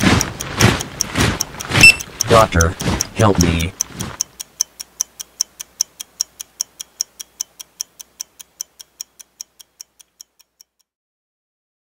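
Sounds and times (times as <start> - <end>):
rapid clock-like ticking: 0.0 - 10.9.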